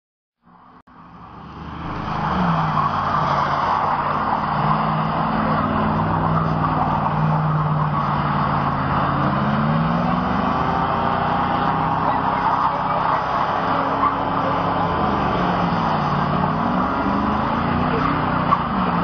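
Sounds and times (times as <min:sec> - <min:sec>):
car engine at high revs: 0:00.5 - 0:19.0
tyres spinning on loose dirt: 0:01.6 - 0:19.0.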